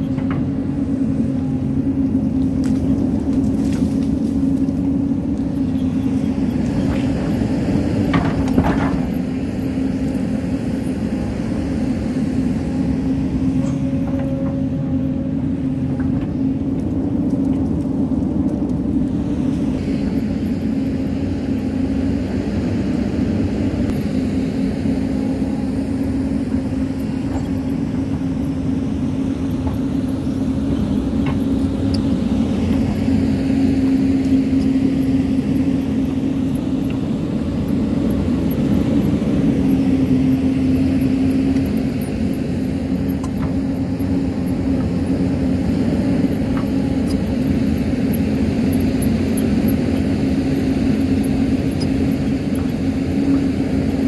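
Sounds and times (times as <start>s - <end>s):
excavator diesel engine: 0.0s - 54.0s.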